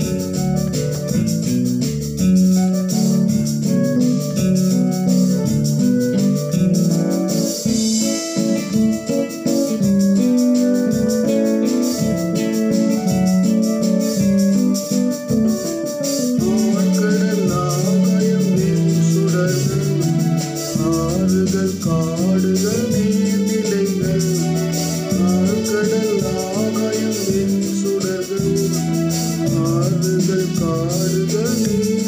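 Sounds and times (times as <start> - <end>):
organ keyboard playing hymn: 0.0 - 32.0.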